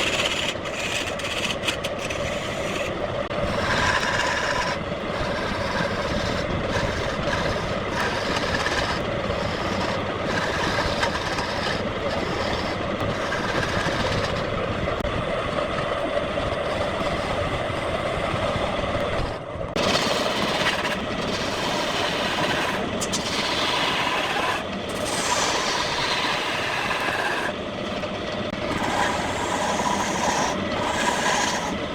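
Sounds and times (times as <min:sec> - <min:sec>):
wood lathe running: 0:00.0 - 0:31.9.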